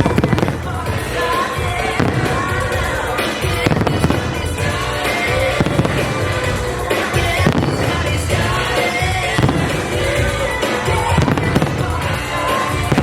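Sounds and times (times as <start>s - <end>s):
fireworks bursting: 0.0s - 13.0s
show music: 0.0s - 13.0s.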